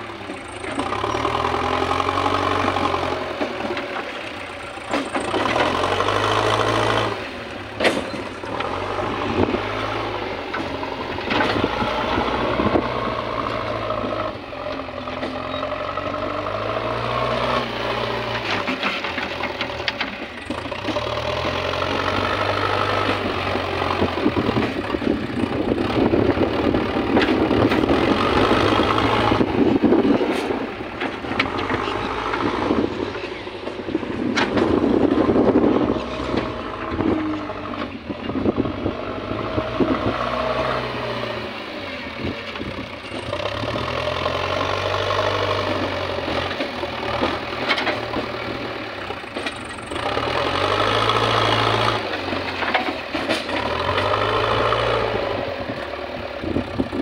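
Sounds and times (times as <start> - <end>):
diesel engine rising and falling: 0.0 - 57.0.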